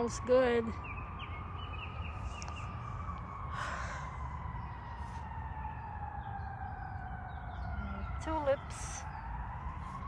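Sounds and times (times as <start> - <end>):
distant siren wailing: 0.0 - 10.0.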